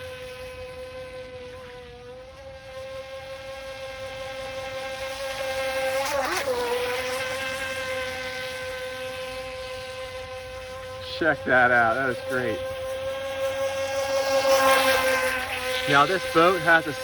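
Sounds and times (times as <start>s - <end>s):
rc boat electric motor whining: 0.0s - 17.0s.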